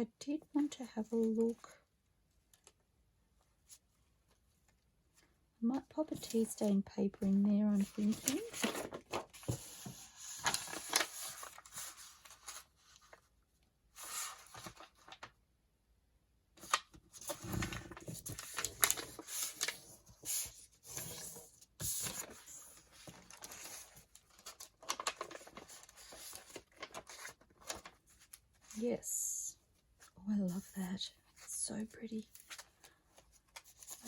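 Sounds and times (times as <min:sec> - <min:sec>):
paper rustling and crinkling: 0:03.5 - 0:15.4, 0:16.6 - 0:29.2, 0:29.8 - 0:34.0.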